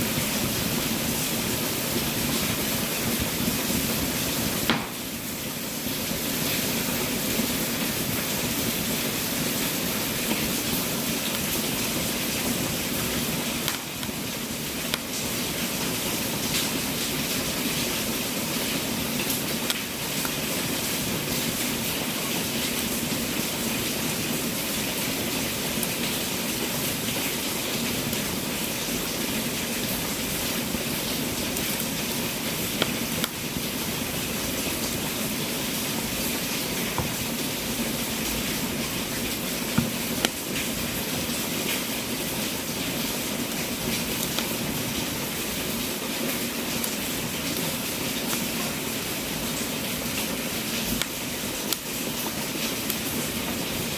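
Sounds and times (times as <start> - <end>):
fire crackling and popping: 0.0 - 53.9
wood fire hissing: 0.0 - 53.9.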